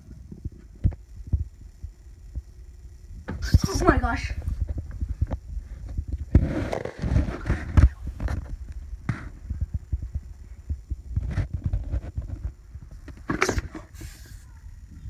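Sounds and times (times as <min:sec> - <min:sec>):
phone microphone rubbing rumble: 0:00.0 - 0:15.0.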